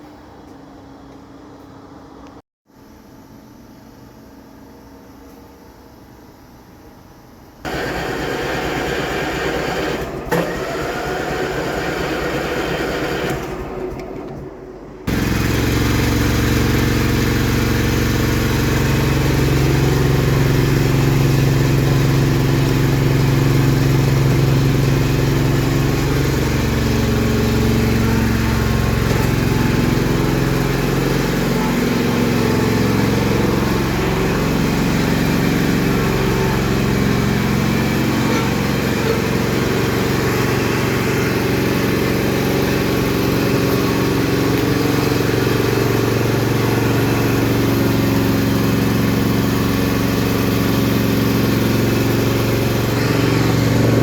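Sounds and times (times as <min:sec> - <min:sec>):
vacuum cleaner running: 0:07.6 - 0:54.0.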